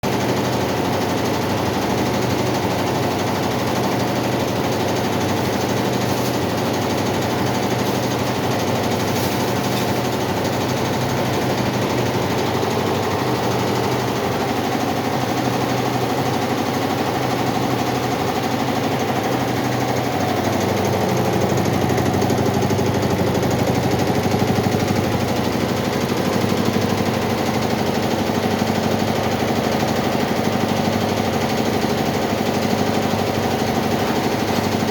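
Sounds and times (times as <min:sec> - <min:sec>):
embroidery machine rattling: 0:00.1 - 0:34.9.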